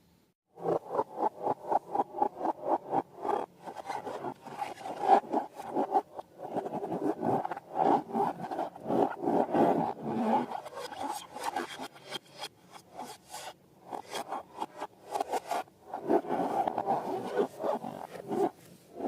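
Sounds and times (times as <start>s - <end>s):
rubbing and scraping slime and balloons: 0.6s - 19.0s.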